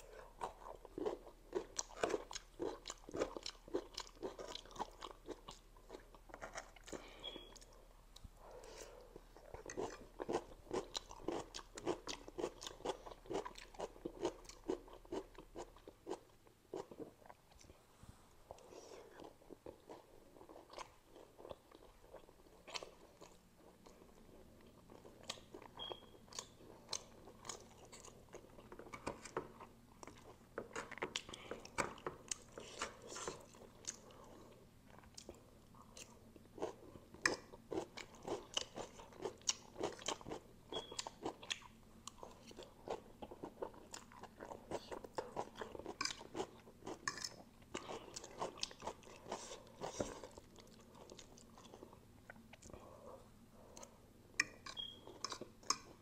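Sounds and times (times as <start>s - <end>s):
chewing with wet smacks and crunches: 0.0s - 8.3s, 9.1s - 17.8s, 18.6s - 53.0s.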